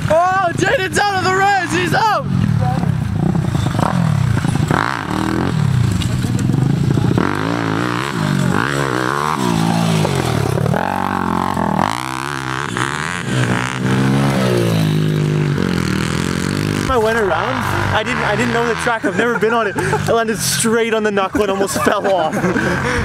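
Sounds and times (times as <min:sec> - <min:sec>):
pit bike engines revving: 0:00.0 - 0:23.0.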